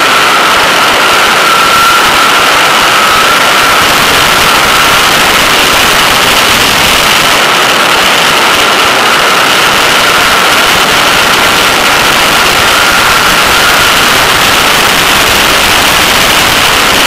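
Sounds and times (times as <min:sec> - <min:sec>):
car engine running hard: 0:00.0 - 0:17.0
wind rush over microphone: 0:00.0 - 0:17.0.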